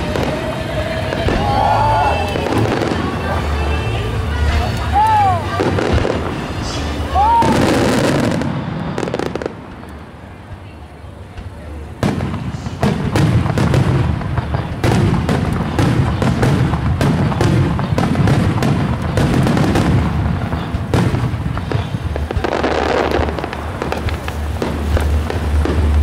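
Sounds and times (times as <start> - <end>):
fireworks booming: 0.0 - 26.0.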